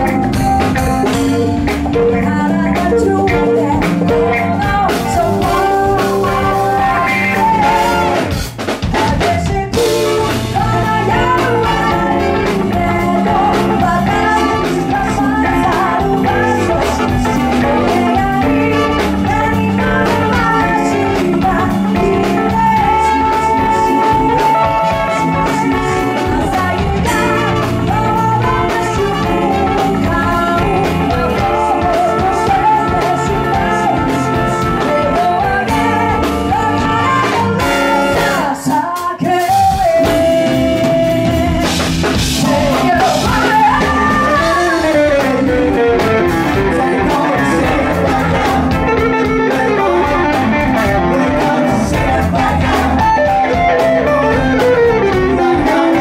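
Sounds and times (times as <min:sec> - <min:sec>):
live band playing: 0:00.0 - 0:56.0
person singing: 0:00.0 - 0:56.0.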